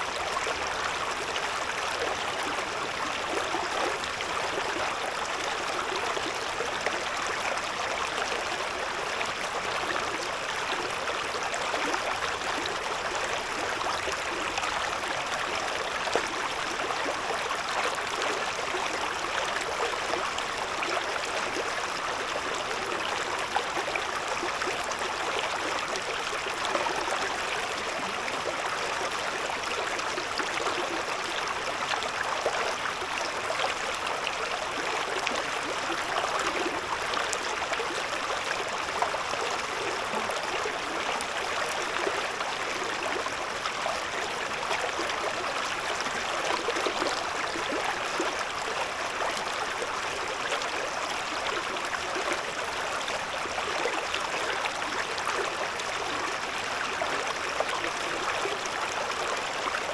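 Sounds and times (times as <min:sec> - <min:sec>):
river babbling over stones: 0:00.0 - 0:59.9.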